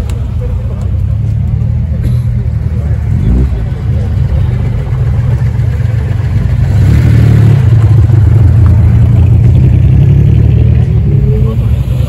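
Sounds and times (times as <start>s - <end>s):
car engine droning under load: 0.0s - 12.0s.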